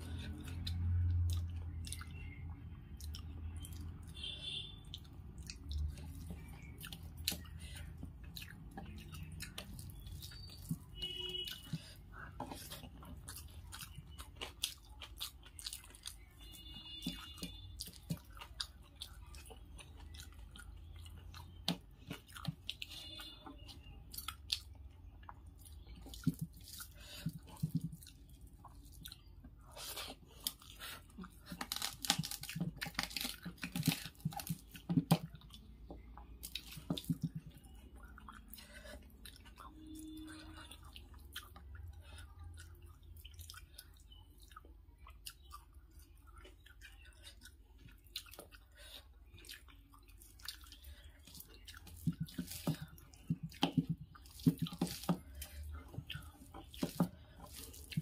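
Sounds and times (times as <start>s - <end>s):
chewing and wet smacks: 0.0s - 58.0s.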